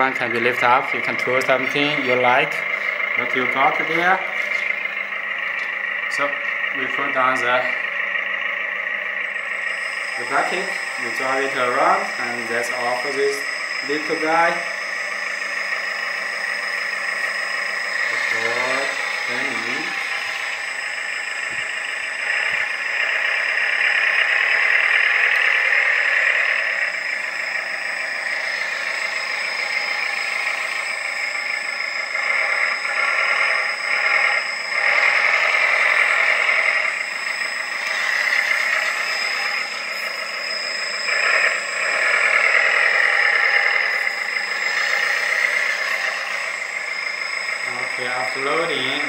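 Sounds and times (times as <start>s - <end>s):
simulated diesel engine from speaker: 0.0s - 49.0s
steady high whine: 0.0s - 49.0s.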